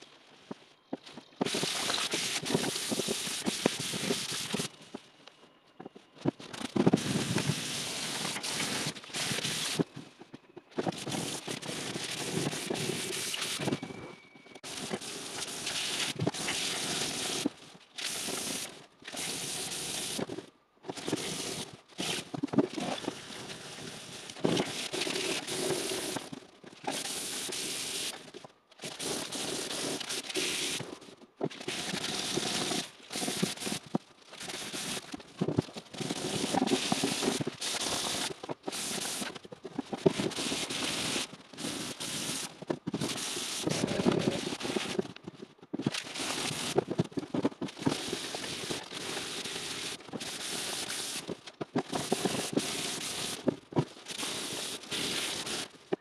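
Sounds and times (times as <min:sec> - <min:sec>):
spray paint can hissing: 0:01.4 - 0:04.7, 0:06.7 - 0:09.9, 0:10.8 - 0:13.8, 0:14.6 - 0:20.3, 0:21.0 - 0:35.2, 0:35.9 - 0:45.0, 0:46.0 - 0:46.9, 0:47.7 - 0:53.5, 0:54.1 - 0:55.8.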